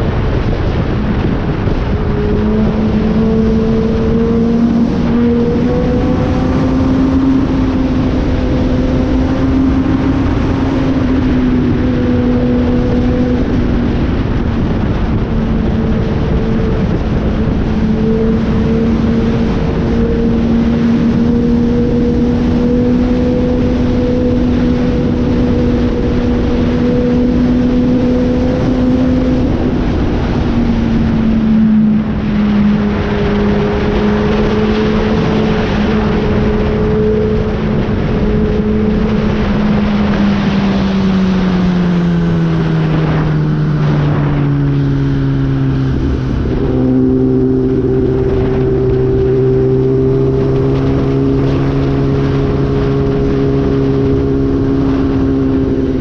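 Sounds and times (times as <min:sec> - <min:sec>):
heavy wind noise: 0:00.0 - 0:56.0
motorcycle engine running: 0:00.0 - 0:56.0.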